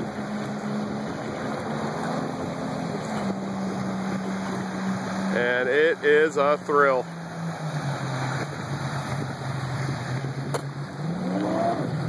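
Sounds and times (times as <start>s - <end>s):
boat engine running: 0.0s - 12.0s
hiss of water and wind: 0.0s - 12.0s.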